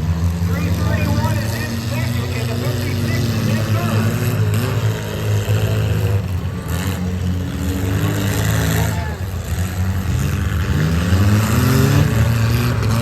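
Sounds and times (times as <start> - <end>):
engine revving up: 0.0 - 13.0
race truck engines running: 0.0 - 13.0.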